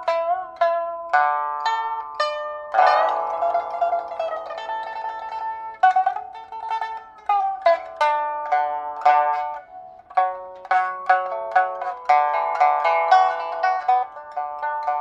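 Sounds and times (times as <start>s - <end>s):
plucked lute notes: 0.0s - 15.0s.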